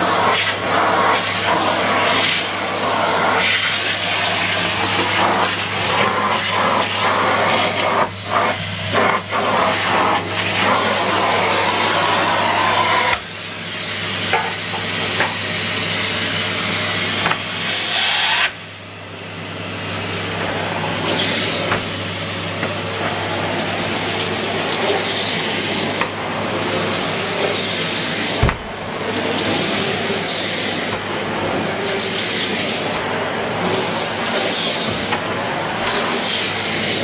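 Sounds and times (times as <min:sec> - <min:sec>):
vacuum cleaner suction: 0:00.0 - 0:37.0.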